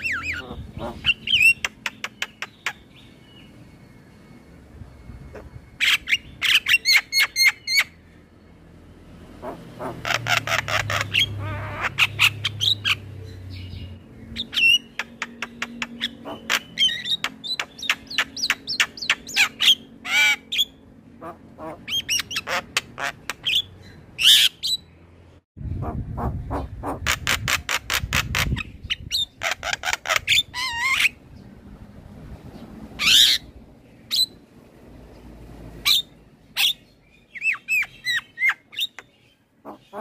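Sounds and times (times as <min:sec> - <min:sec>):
myna bird singing: 0:00.0 - 0:08.7, 0:09.3 - 0:40.0.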